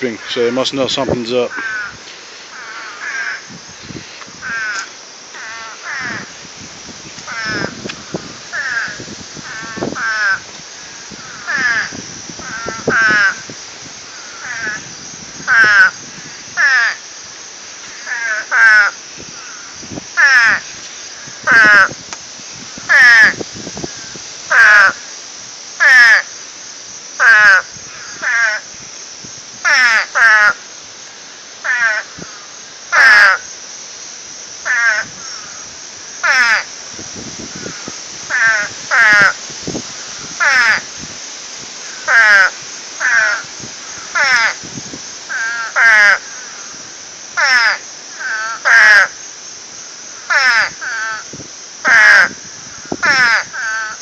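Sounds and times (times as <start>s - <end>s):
frogs calling: 0.0s - 54.0s.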